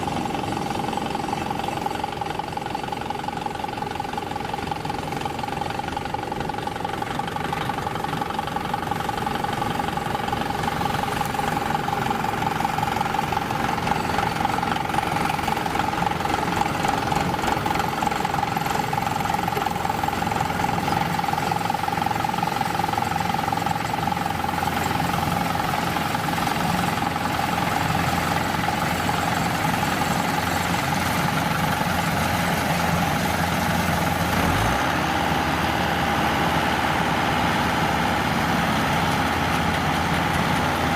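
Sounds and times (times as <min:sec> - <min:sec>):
diesel engine hum: 0:00.0 - 0:40.9.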